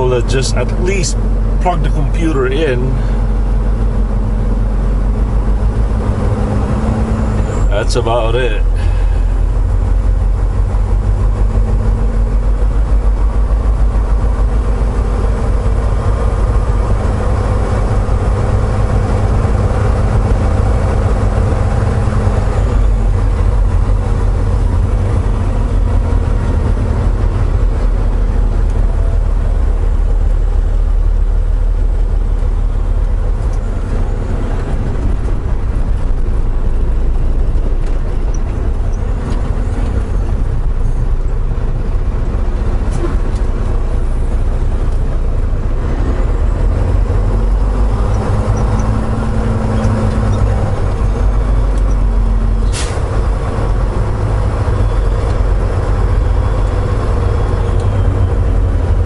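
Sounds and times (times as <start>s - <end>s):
diesel engine rumbling: 0.0s - 59.0s
faint engine whine: 0.0s - 59.0s.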